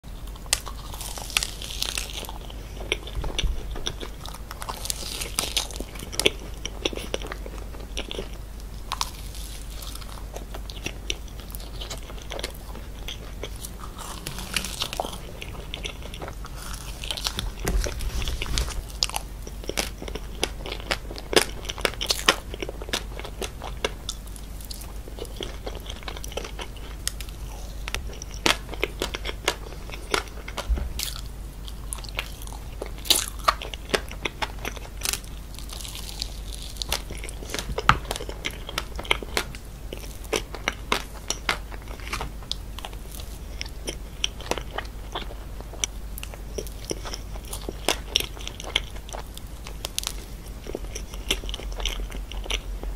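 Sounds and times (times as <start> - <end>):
chocolate coating crunching: 0.1 - 52.9.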